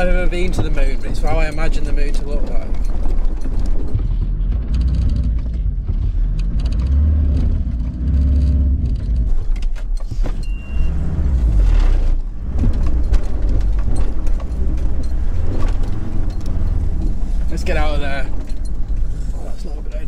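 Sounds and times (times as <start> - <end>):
low rumble: 0.0 - 20.0
rattles and clatters: 0.0 - 20.0
van engine: 0.0 - 20.0.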